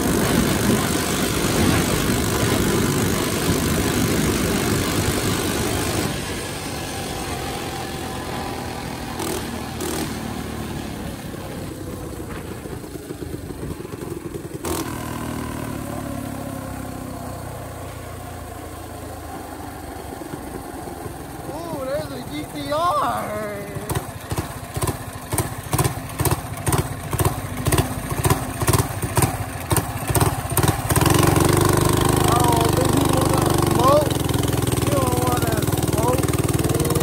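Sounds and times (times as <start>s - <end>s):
minibike engine running: 0.0s - 37.0s.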